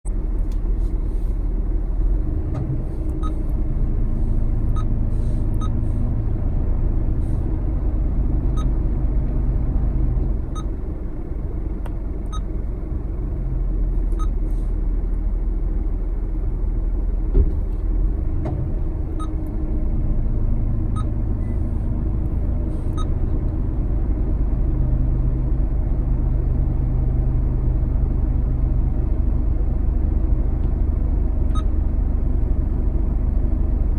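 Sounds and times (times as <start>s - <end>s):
car road and engine rumble: 0.0s - 33.9s.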